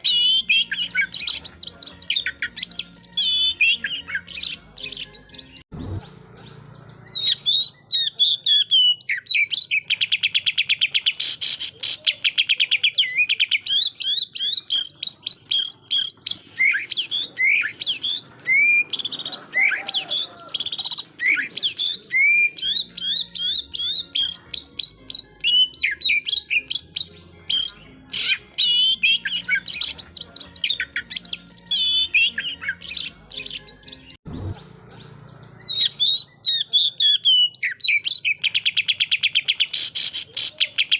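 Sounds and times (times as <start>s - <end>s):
songbird singing whistles: 0.0s - 40.9s.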